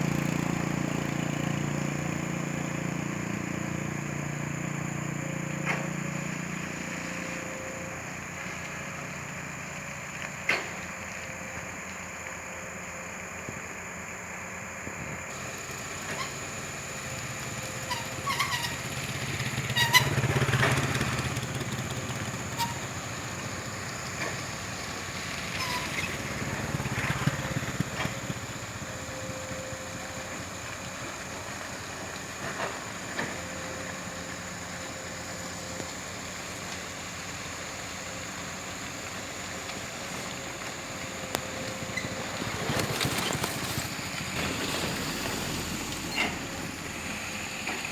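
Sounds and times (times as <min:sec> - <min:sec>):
excavator diesel engine: 0:00.0 - 0:47.9.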